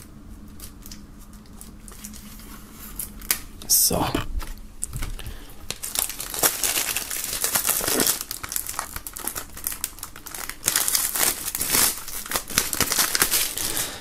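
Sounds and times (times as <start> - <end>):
plastic shrink-wrap crinkling: 0.0 - 3.7, 4.4 - 14.0.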